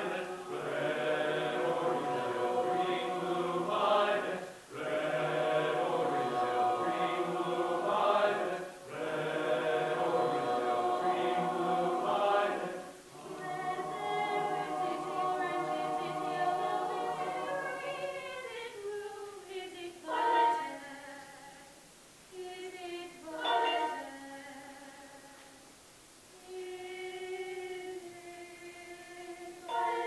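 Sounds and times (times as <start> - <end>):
mixed choir singing: 0.0 - 21.7, 22.4 - 25.2, 26.4 - 30.0.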